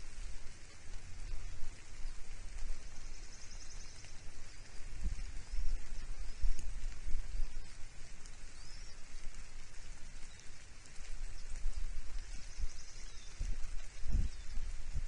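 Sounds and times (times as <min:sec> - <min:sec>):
steady rain falling: 0:00.0 - 0:15.0
wind gusts on microphone: 0:00.0 - 0:15.0.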